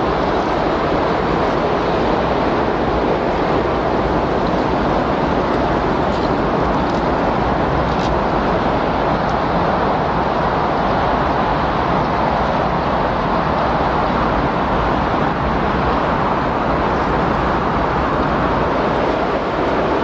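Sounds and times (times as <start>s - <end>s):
strong wind rushing: 0.0s - 20.0s.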